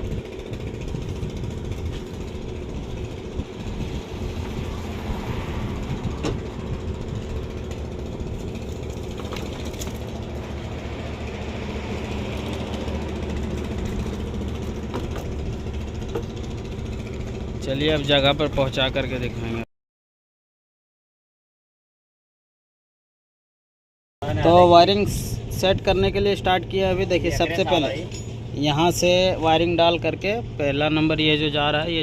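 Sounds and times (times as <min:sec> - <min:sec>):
engine idling: 0:00.0 - 0:19.6, 0:24.2 - 0:32.0.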